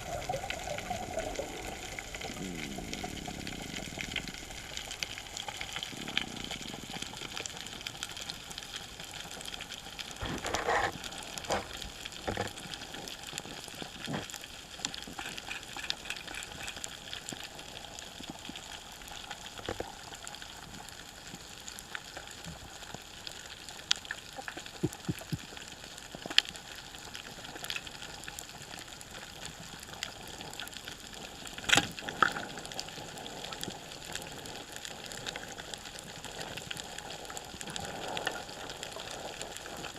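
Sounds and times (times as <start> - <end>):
crackle of small underwater clicks: 0.0 - 39.9.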